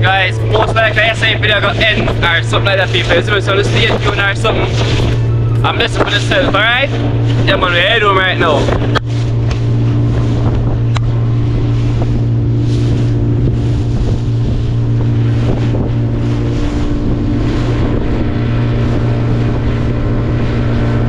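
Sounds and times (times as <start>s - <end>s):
boat motor running: 0.0s - 21.0s
wind buffeting microphone: 0.0s - 21.0s.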